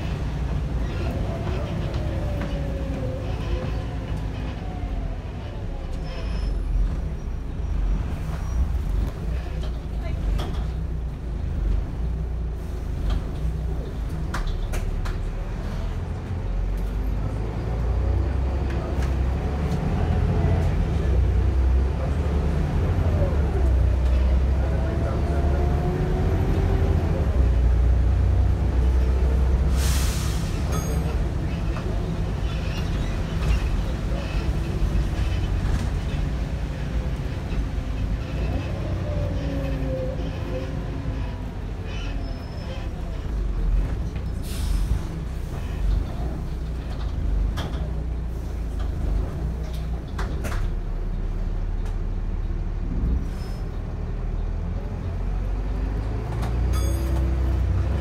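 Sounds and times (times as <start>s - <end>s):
bus body rattling: 0.0s - 29.7s, 30.3s - 58.0s
bus engine and road rumble: 0.0s - 58.0s.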